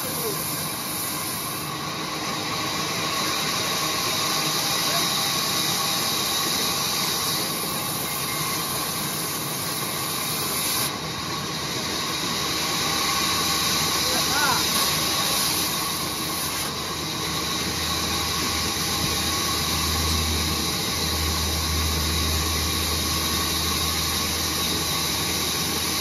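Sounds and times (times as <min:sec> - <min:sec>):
band saw cutting wood: 0:00.0 - 0:26.0.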